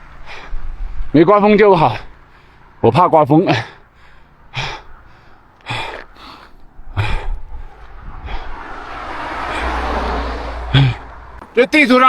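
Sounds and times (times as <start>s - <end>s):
heavy rhythmic breathing: 0.0s - 2.8s, 3.4s - 11.6s
vehicle approaching on road: 0.0s - 12.0s.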